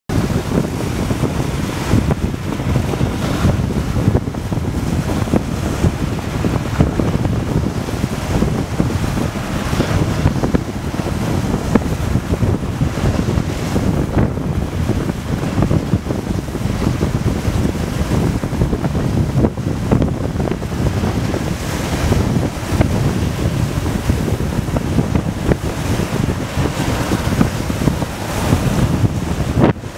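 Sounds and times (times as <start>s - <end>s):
lake waves splashing on dock: 0.1s - 29.9s
strong wind buffeting microphone: 0.1s - 29.9s.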